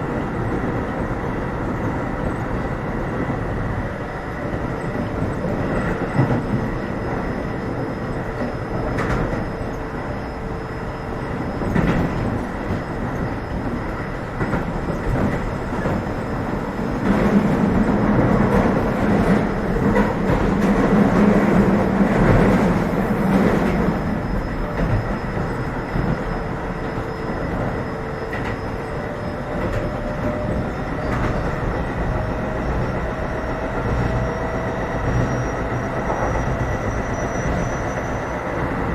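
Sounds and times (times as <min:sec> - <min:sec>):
train wheels clickety-clack on rails: 0:00.0 - 0:38.9.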